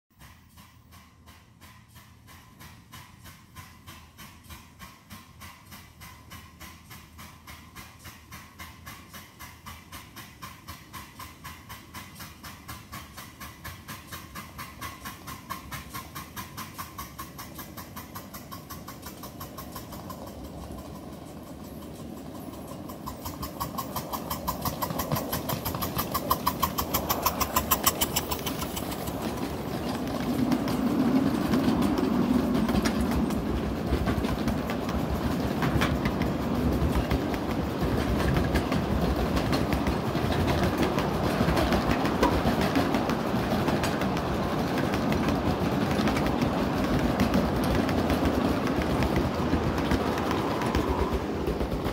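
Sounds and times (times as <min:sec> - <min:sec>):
steam locomotive chuffing: 0:00.1 - 0:51.9
small cars rattling over rail joints: 0:00.2 - 0:51.9.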